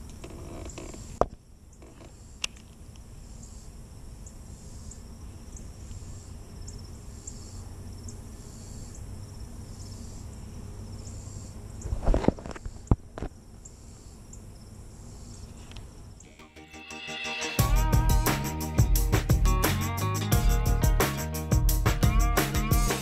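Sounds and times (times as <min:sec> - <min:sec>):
continuous high hiss: 0:00.0 - 0:23.0
insects chirping: 0:00.0 - 0:23.0.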